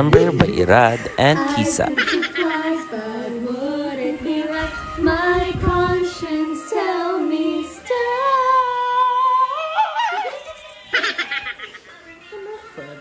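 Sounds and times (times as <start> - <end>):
woman singing: 1.2 - 13.0.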